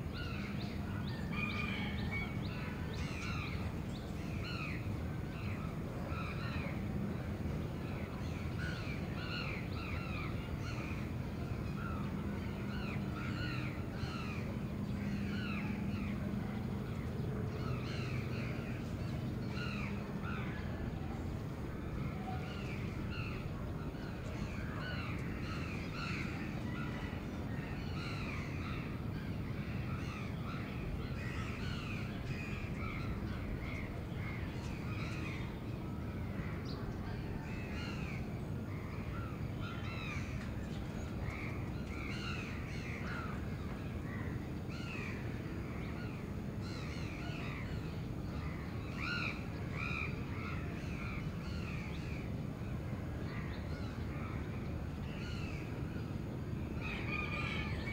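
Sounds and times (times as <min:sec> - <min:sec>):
low city rumble: 0:00.0 - 0:57.9.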